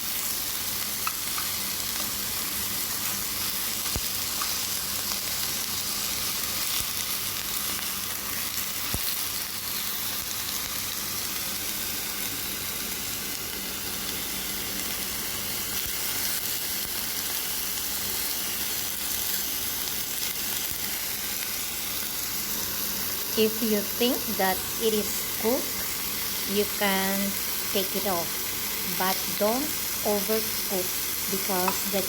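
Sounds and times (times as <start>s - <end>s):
chicken sizzling in a pan: 0.0s - 32.0s.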